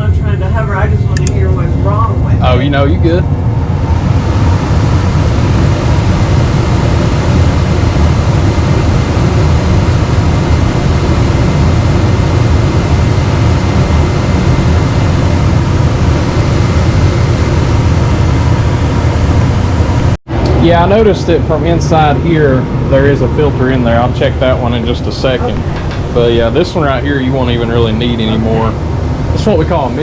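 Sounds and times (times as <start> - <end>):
faint steady whine: 0.0 - 30.0
furnace blower air rushing: 0.0 - 30.0.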